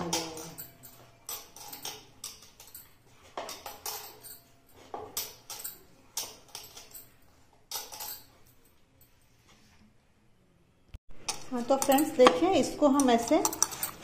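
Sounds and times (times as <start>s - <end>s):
bangles clinking: 0.0s - 9.3s, 11.3s - 14.0s.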